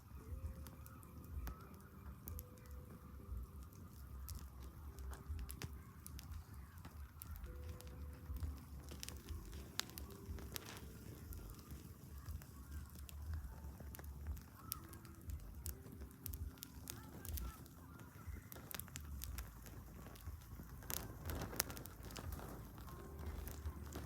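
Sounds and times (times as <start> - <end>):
campfire crackling: 0.0 - 24.0
sharp pops of fire: 0.0 - 24.0.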